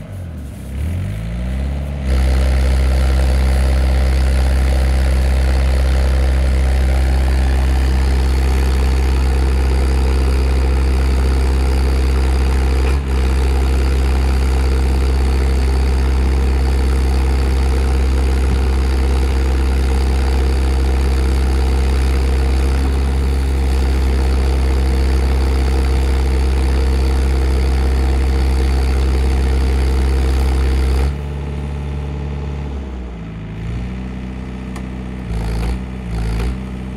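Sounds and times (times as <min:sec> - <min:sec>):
drill rig engine running: 0:01.8 - 0:33.6.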